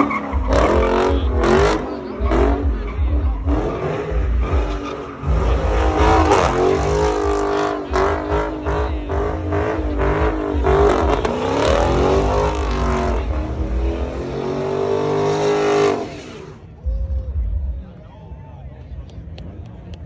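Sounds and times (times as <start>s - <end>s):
car engine at high revs: 0.0s - 16.7s.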